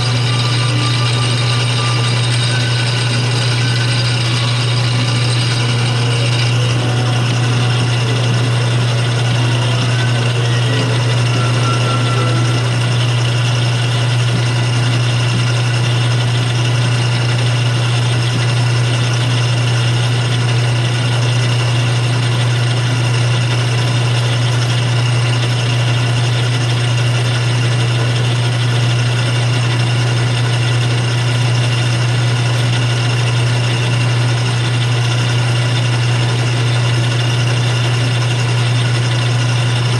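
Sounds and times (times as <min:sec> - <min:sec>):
lathe running with low hum: 0:00.0 - 0:39.9.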